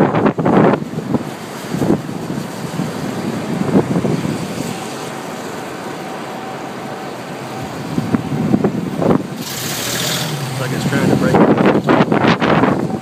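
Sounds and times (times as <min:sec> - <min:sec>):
wind buffeting car: 0:00.0 - 0:13.0.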